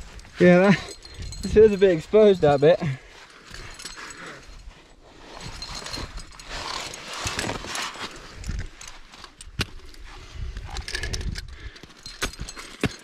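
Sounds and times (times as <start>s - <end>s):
clothing and gear rustling on rock: 0.0s - 13.0s.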